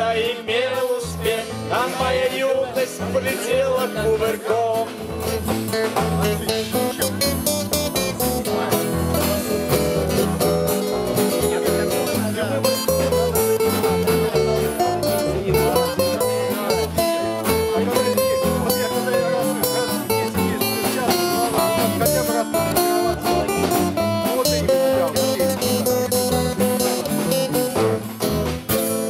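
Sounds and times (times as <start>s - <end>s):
bass guitar: 0.0s - 29.0s
strummed acoustic guitars: 0.0s - 29.0s
electric guitar: 1.2s - 29.0s.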